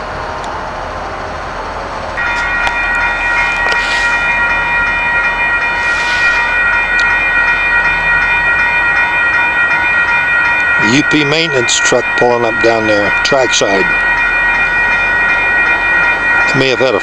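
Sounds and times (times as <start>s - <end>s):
high-pitched held tones: 2.2s - 17.0s.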